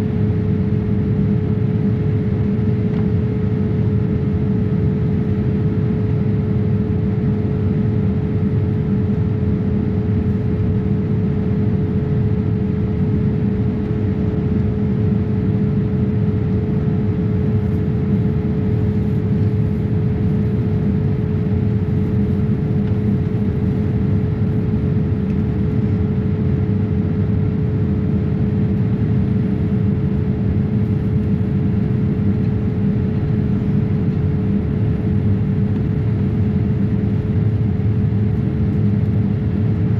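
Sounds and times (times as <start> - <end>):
airplane cabin engine drone: 0.0 - 39.9
steady low hum: 0.0 - 39.9.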